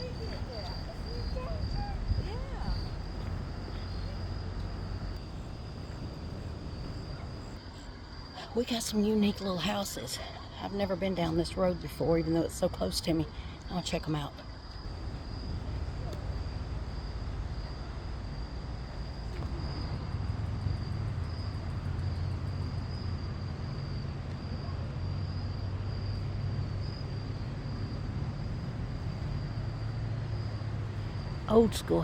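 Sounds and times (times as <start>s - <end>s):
crickets trilling: 0.0s - 32.0s
low steady rumble: 0.0s - 32.0s.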